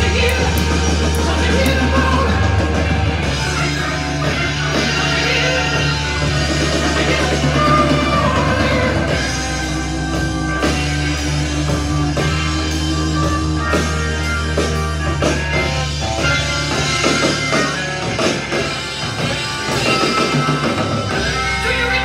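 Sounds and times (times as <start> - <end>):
rock music from a record: 0.0 - 22.0.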